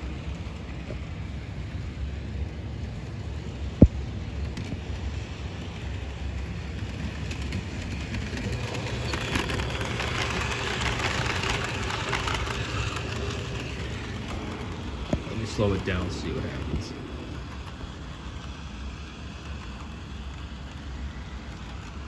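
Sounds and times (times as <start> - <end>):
model train motor humming: 0.0 - 22.0
wheels clicking over rail joints: 0.0 - 22.0.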